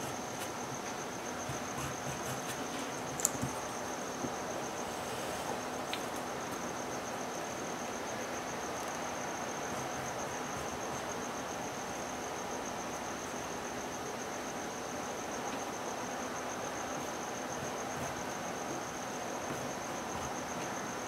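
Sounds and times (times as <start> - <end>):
constant hiss: 0.0 - 21.0
insects trilling: 0.0 - 21.0.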